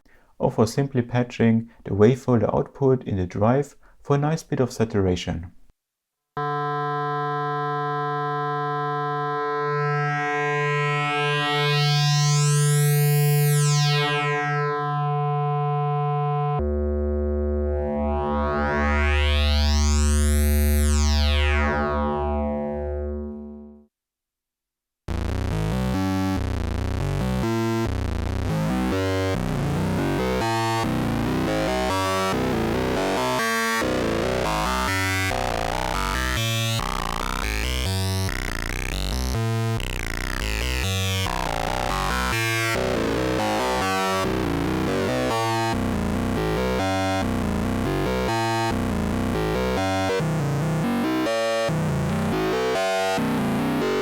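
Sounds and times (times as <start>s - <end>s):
synthesizer oscillator sequenced notes: 6.4s - 23.8s, 25.1s - 54.0s.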